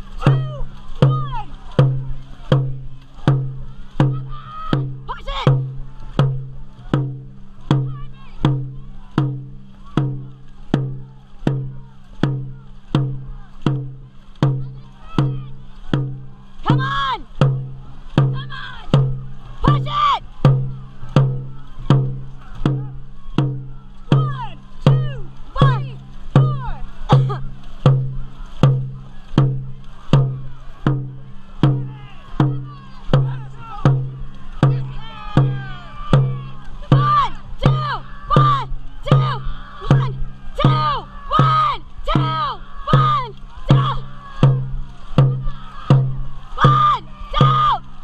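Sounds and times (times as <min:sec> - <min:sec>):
deep drum booms: 0:00.0 - 0:47.9.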